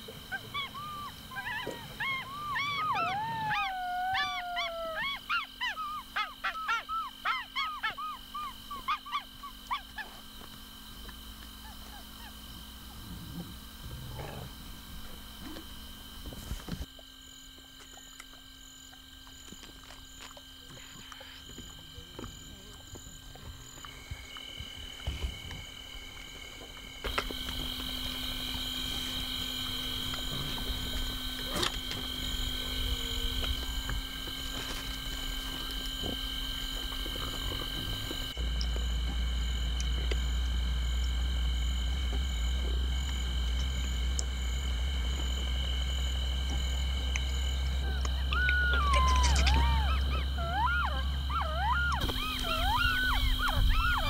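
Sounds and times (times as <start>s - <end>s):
animals calling in steady high tones: 0.0s - 15.2s, 17.8s - 54.0s.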